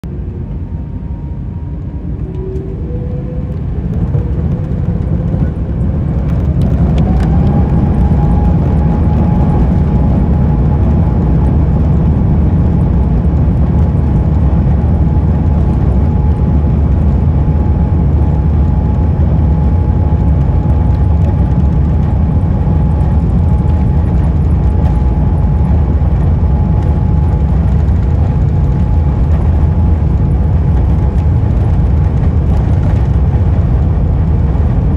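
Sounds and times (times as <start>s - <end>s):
jet engines spooling up: 0.1s - 34.1s.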